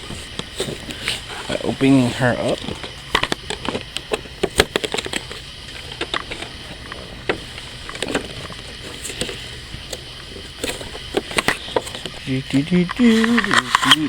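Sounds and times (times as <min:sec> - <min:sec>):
packaging being opened: 0:00.0 - 0:14.0.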